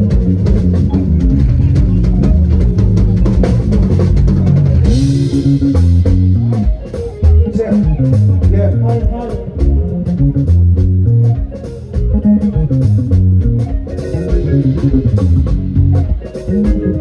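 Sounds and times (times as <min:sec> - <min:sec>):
bass guitar: 0:00.0 - 0:17.0
drums playing a beat: 0:00.0 - 0:17.0
electric guitar: 0:00.0 - 0:17.0.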